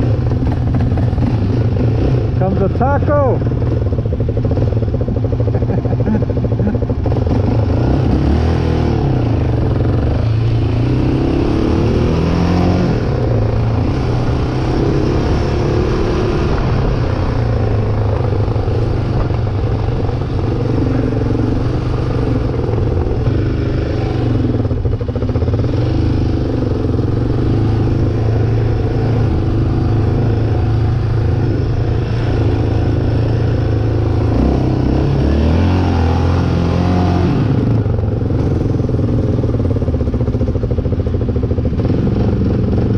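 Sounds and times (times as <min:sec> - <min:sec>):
off-road vehicle engine running: 0:00.0 - 0:42.9.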